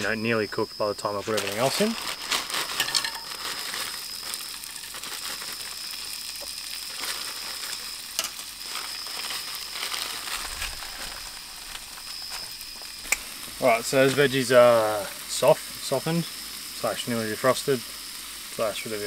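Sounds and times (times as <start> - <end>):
vegetables sizzling in a frying pan: 0.0 - 19.0
sharp pops of frying: 1.4 - 18.7.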